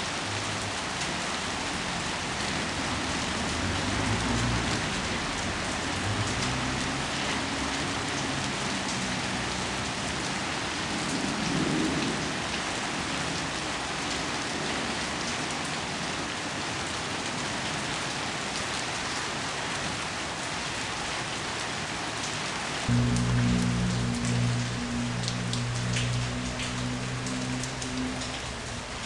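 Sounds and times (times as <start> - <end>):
heavy rain on trees: 0.0 - 29.0.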